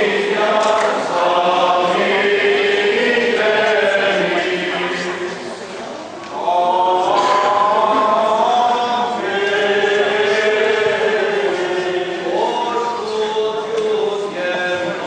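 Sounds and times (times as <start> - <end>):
voices singing liturgical chant: 0.0 - 5.6, 6.3 - 15.0.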